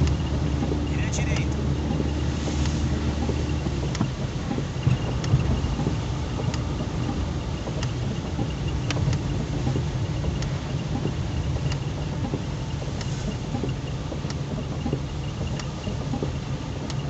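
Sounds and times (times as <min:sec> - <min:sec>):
car engine and tyres rumbling: 0:00.0 - 0:17.0
sharp ticks: 0:00.0 - 0:17.0.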